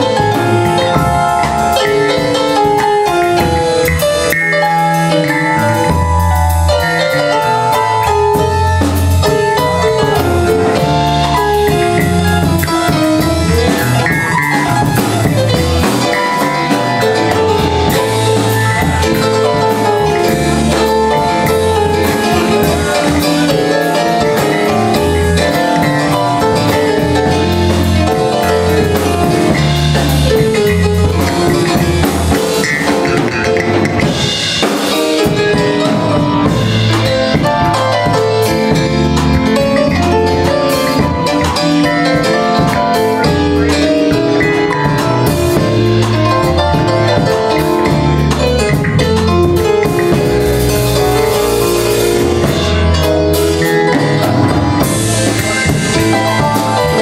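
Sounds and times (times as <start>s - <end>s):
drum kit: 0.0s - 57.0s
electric keyboard: 0.0s - 57.0s
walking bass line: 0.0s - 57.0s.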